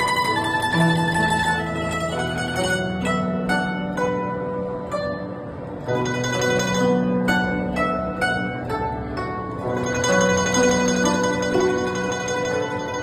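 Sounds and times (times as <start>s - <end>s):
plucked zither notes: 0.0s - 13.0s.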